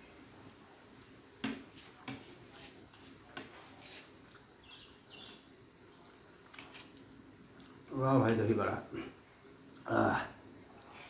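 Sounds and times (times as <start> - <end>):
faint high hiss: 0.0 - 11.0.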